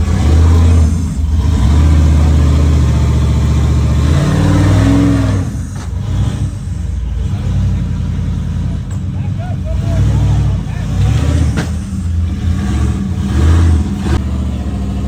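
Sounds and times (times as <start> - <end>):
buggy engine revving hard: 0.0 - 15.0.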